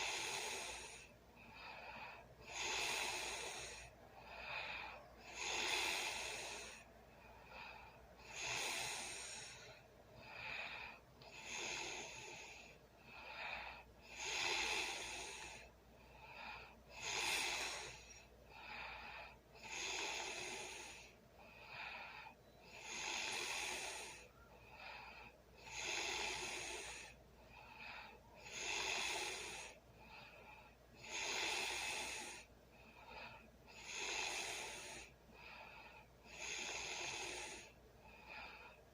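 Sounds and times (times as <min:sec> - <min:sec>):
person snoring: 0:00.0 - 0:29.8, 0:31.0 - 0:38.8.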